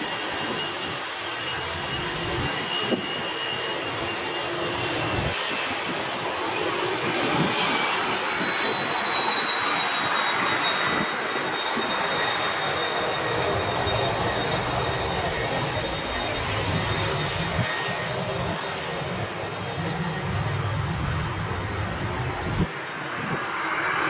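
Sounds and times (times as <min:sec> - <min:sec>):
jet engines roaring at takeoff: 0:00.0 - 0:24.0.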